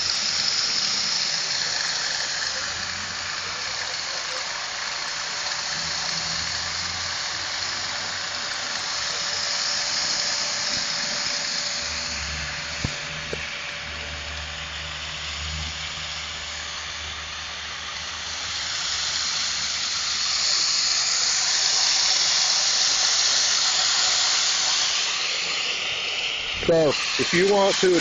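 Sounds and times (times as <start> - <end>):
cicadas chorus: 0.0 - 28.0.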